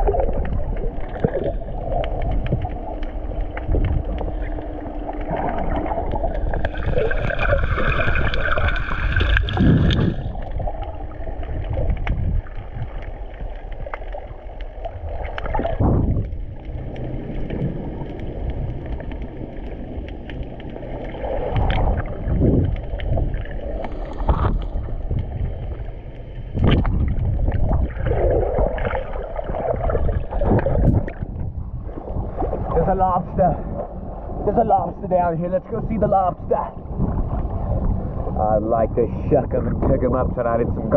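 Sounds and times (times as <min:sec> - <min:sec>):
water splashing surges: 0:00.0 - 0:25.8, 0:26.5 - 0:34.8
muffled water sloshing and gurgling: 0:00.0 - 0:40.9.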